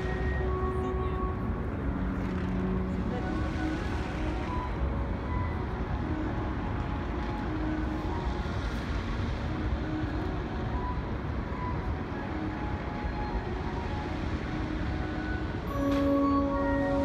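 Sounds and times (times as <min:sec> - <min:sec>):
fountain water jets spraying: 0:00.0 - 0:17.0.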